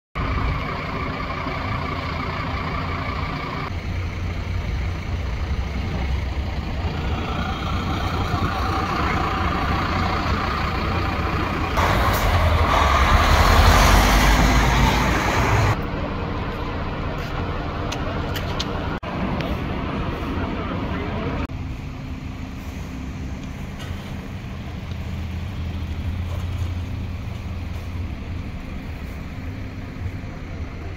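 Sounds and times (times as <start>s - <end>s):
road traffic rumble: 0.2s - 30.9s
truck driving past: 0.2s - 30.9s.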